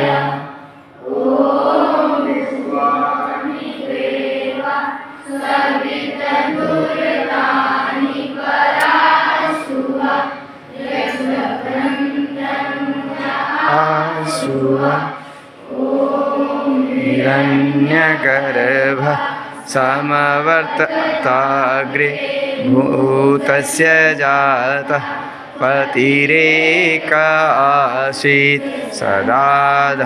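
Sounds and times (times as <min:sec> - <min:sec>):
children chanting a prayer: 0:00.0 - 0:30.0.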